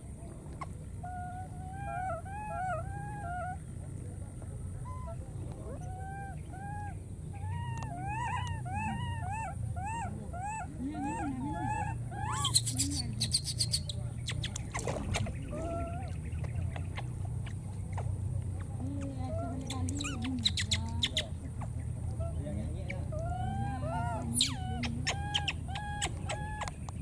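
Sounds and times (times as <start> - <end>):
baby monkeys crying: 0.6 - 3.7, 4.8 - 26.8.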